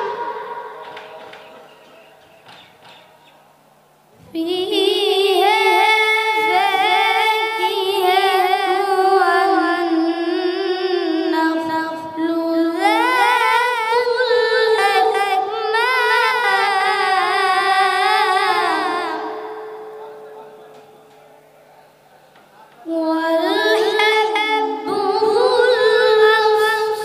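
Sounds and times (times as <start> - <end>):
boy reciting melodically: 0.0 - 2.3, 4.2 - 20.1, 22.6 - 27.0.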